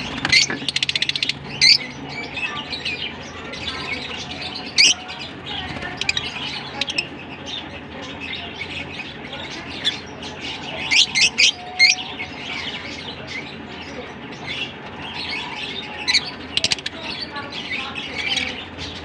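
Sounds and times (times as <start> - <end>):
birds chattering high chirps: 0.0 - 19.0.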